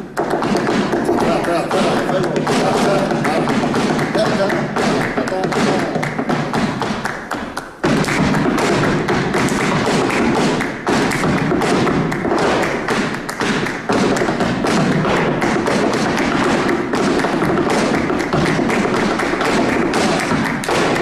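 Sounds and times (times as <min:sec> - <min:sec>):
sharp hand-claps: 0:00.0 - 0:21.0
heel strikes on stage floor: 0:00.2 - 0:21.0.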